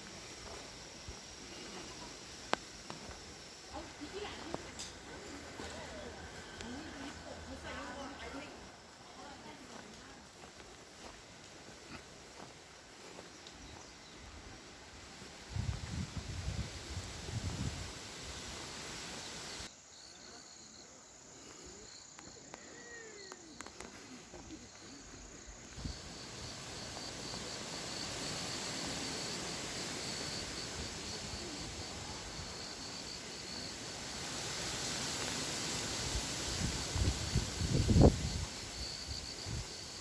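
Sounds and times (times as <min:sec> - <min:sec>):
insect chirping in fast pulses: 0:00.0 - 0:09.1, 0:12.2 - 0:40.0
steady background hiss: 0:00.0 - 0:40.0.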